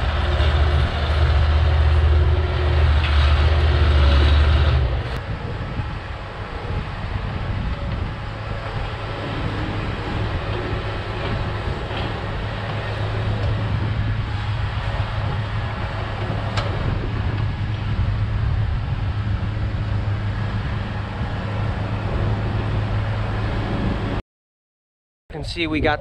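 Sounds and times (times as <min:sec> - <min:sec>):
diesel earthmover engine running: 0:00.0 - 0:24.2.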